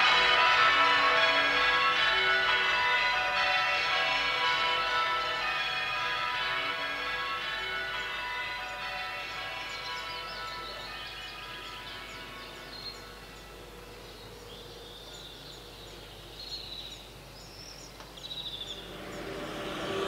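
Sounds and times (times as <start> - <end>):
background music: 0.0 - 14.6, 18.5 - 20.0
birds chirping: 0.0 - 20.0
faint outdoor noise: 0.0 - 20.0.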